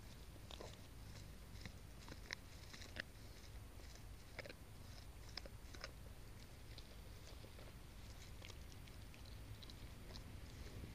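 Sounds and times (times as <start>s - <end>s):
dog chewing treat: 0.4s - 10.9s.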